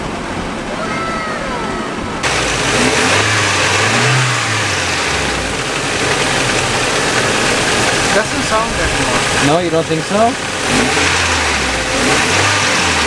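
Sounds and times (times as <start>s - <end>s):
car engine starting and idling: 2.0s - 13.0s.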